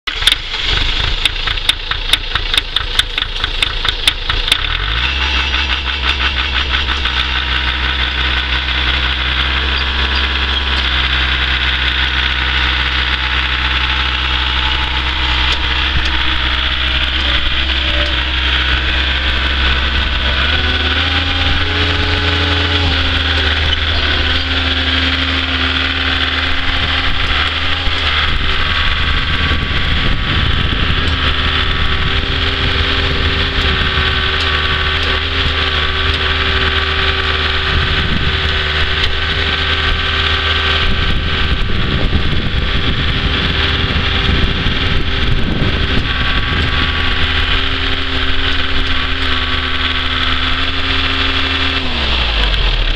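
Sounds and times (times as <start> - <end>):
diesel engine chugging: 0.0 - 52.9.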